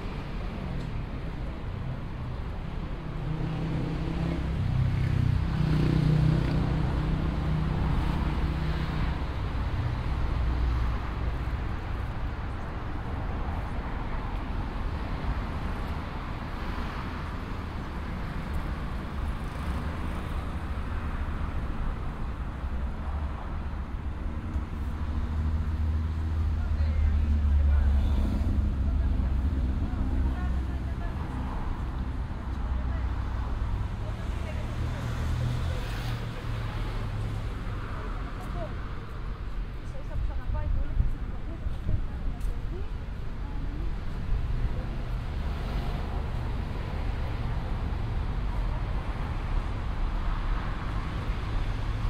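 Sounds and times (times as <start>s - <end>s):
street traffic rumble: 0.0s - 52.0s.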